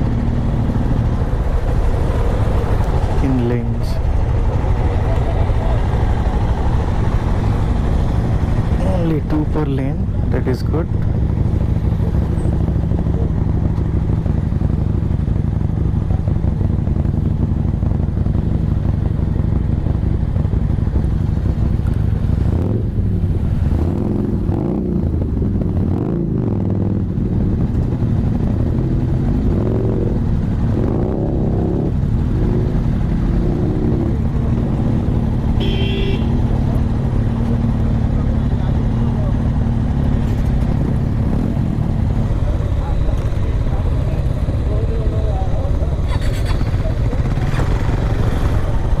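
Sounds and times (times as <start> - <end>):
motorcycle engines idling: 0.0 - 49.0
motorcycle engines revving: 0.0 - 49.0.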